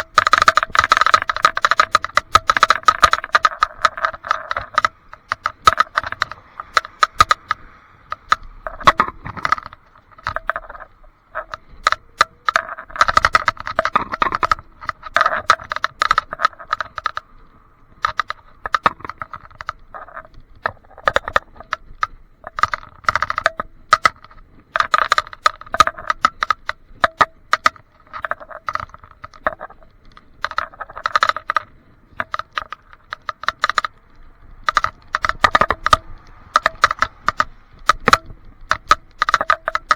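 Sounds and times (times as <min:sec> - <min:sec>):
rapid rattling and clicking: 0:00.0 - 0:39.9.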